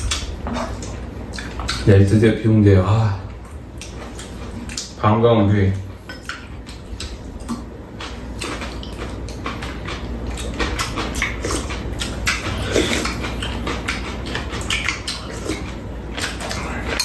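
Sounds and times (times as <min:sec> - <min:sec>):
people chewing and slurping: 0:00.0 - 0:05.0, 0:05.8 - 0:17.0
low hum: 0:00.0 - 0:17.0.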